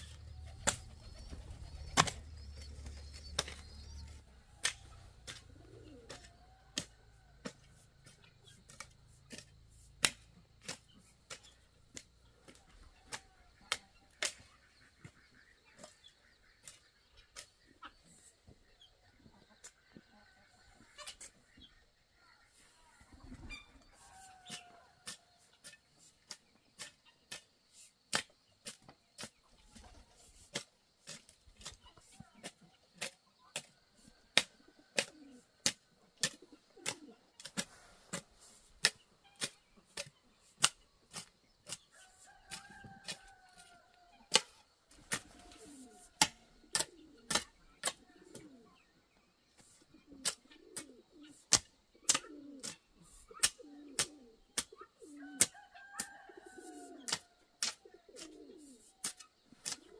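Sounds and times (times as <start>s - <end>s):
chickens calling: 0.0s - 59.9s.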